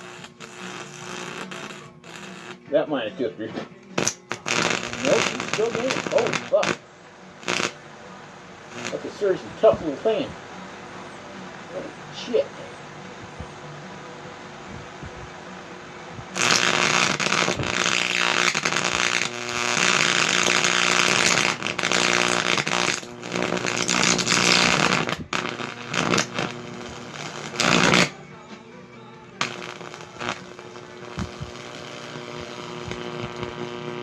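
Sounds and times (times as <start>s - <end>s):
electric arc buzzing and crackling: 0.0s - 28.2s, 29.3s - 34.0s
steady electrical hum: 0.0s - 34.0s.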